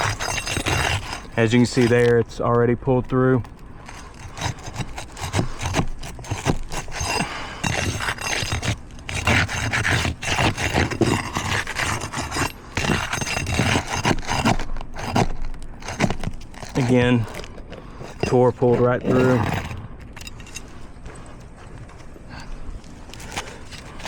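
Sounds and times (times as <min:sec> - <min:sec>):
metal bar scraping under shingles: 0:00.0 - 0:22.1, 0:22.9 - 0:24.0.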